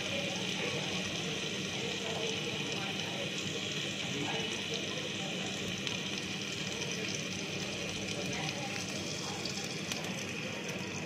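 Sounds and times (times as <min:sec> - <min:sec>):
fat sizzling on a griddle: 0:00.0 - 0:11.0.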